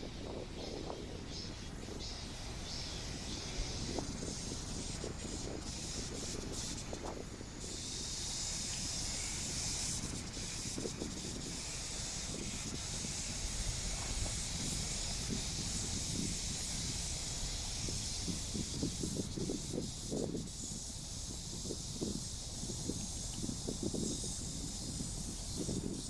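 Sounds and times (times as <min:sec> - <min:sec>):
cicadas buzzing: 0:00.0 - 0:26.0.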